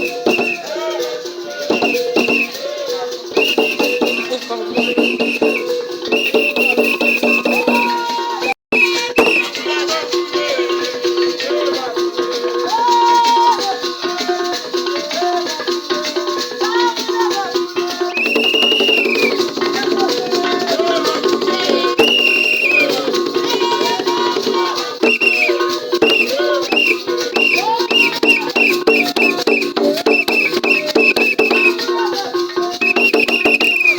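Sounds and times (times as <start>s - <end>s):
rattle shaken fast: 0.0s - 8.1s, 8.9s - 33.9s.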